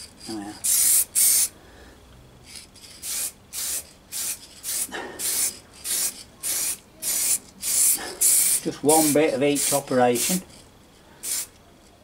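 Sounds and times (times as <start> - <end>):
spray paint can hissing: 0.0 - 1.5, 2.4 - 10.6, 11.2 - 11.6.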